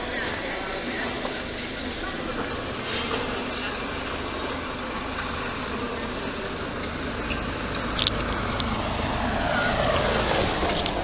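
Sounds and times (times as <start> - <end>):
traffic rushing: 0.0 - 11.0
vehicle approaching: 0.0 - 11.0.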